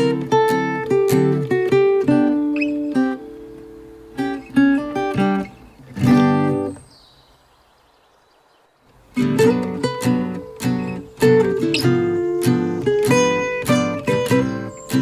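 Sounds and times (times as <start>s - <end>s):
acoustic guitar strumming chords: 0.0s - 6.9s, 8.9s - 15.0s.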